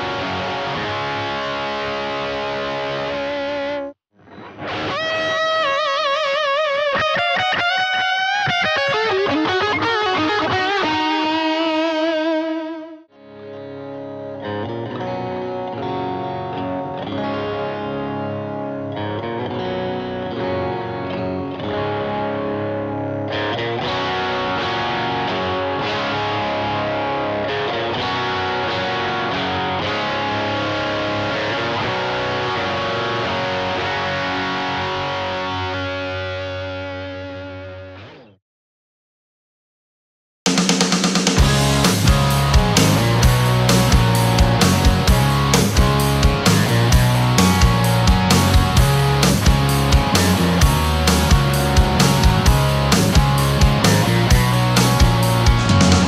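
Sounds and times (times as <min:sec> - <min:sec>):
electric guitar sustained notes: 0:00.0 - 0:38.3, 0:41.4 - 0:56.0
distorted electric guitar chords: 0:00.0 - 0:38.4, 0:40.6 - 0:56.0.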